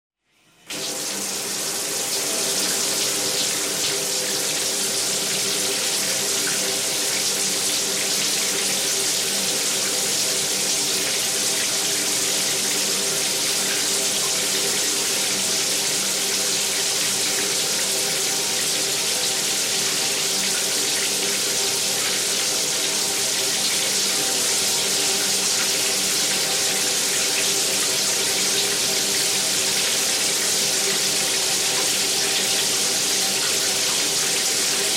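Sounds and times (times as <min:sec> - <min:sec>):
water pouring into bathtub: 0:00.7 - 0:34.9.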